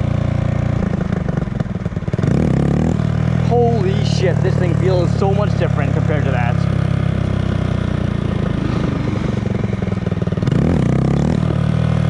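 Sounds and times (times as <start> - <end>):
mini motorcycle engine revving: 0.0 - 12.0.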